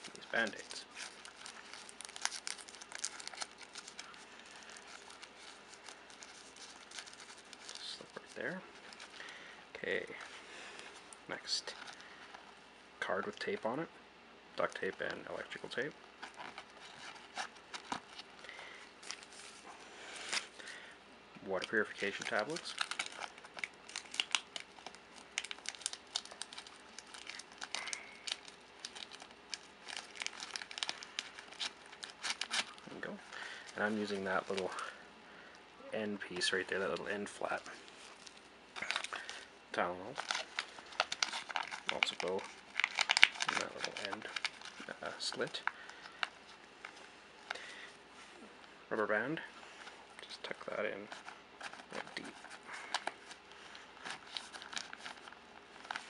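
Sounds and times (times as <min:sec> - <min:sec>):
bandage wrappers crinkling: 0:00.0 - 0:12.5, 0:14.6 - 0:20.8, 0:21.6 - 0:35.0, 0:36.3 - 0:48.0, 0:49.8 - 0:56.0.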